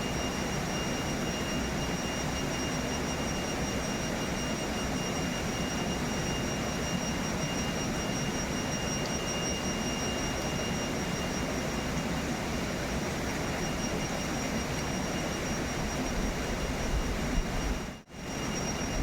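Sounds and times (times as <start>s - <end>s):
thin high whine: 0.0s - 19.0s.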